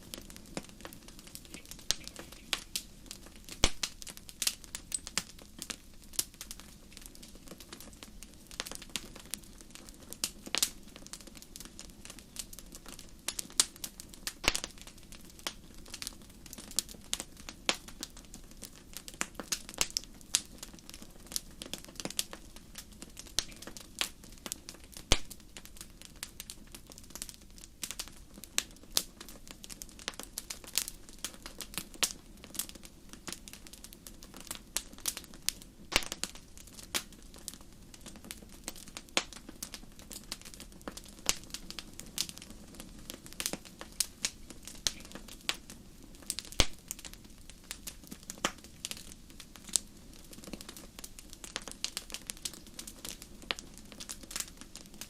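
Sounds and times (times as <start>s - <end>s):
fire crackling in a fireplace: 0.0s - 55.0s.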